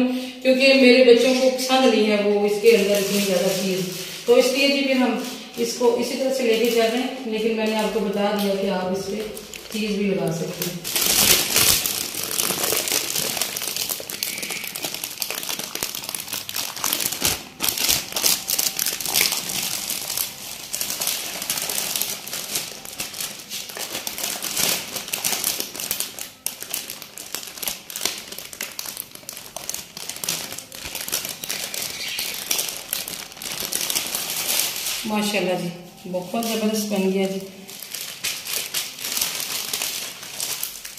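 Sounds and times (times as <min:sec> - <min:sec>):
plastic sheet crinkling: 0:00.9 - 0:40.9.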